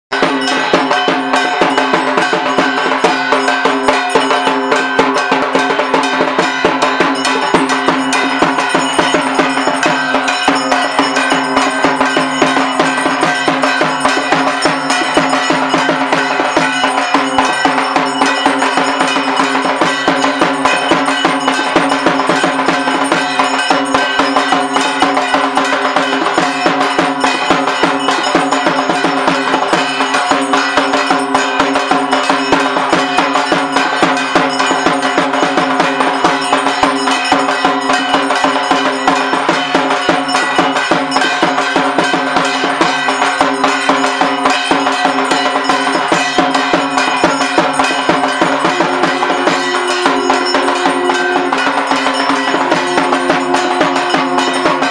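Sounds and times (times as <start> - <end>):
drum-like percussion: 0.1 - 54.9
handbell ringing rapidly: 0.1 - 54.9.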